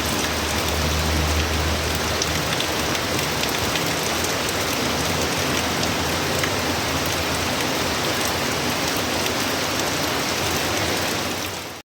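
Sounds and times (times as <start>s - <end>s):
water dripping: 0.0s - 11.7s
steady rain hitting surfaces: 0.0s - 11.8s.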